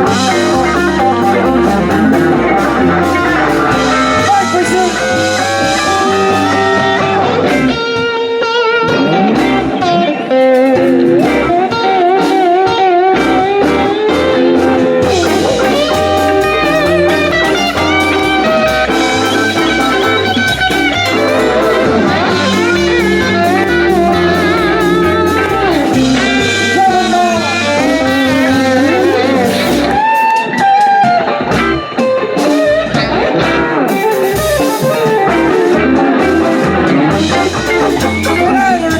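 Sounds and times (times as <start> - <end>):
bass line: 0.0 - 38.9
electric guitar lead: 0.0 - 38.9.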